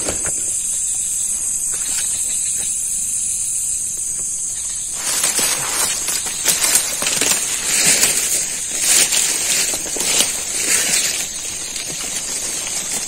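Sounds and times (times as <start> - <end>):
crackling handling sounds: 0.0 - 3.0, 4.0 - 13.0
night insects droning: 0.0 - 13.0.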